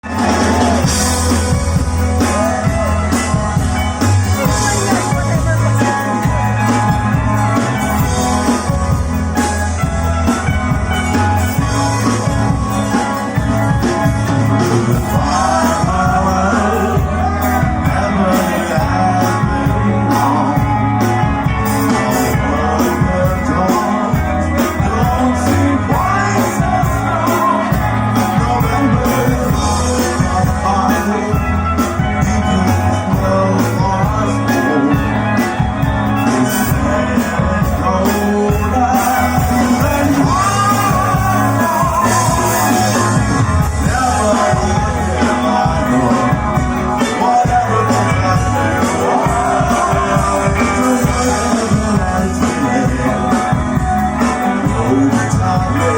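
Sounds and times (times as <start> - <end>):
person singing: 0.0 - 55.9
rock band playing live: 0.0 - 55.9.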